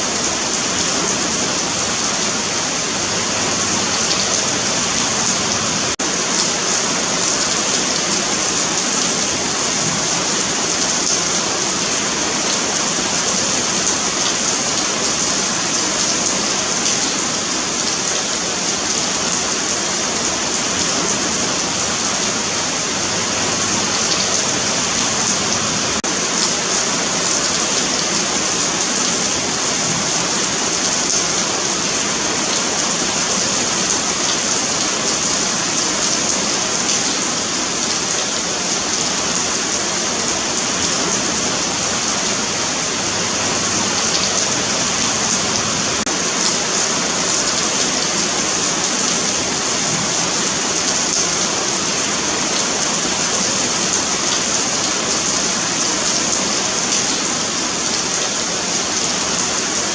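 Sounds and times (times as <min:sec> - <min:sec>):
rain on pavement: 0:00.0 - 0:59.9.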